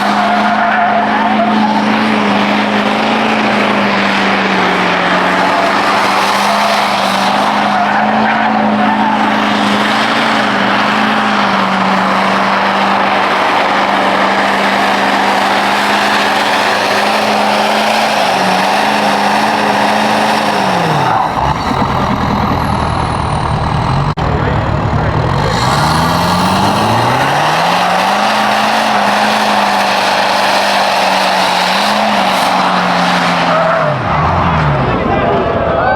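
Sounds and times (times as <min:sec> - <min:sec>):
diesel truck engine revving: 0:00.0 - 0:35.9
tires squealing: 0:00.0 - 0:35.9.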